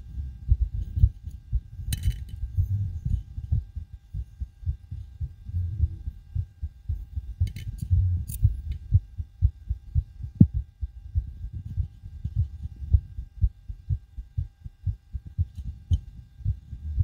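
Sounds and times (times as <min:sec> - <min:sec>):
fast heartbeat: 0:00.0 - 0:17.0.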